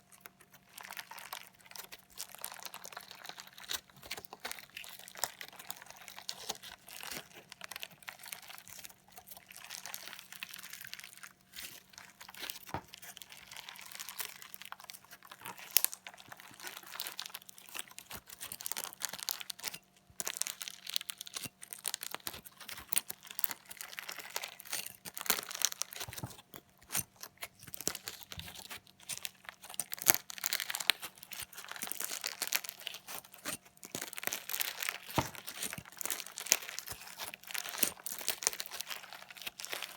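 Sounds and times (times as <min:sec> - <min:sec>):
fork stabbing crackling slime: 0:00.4 - 0:39.9.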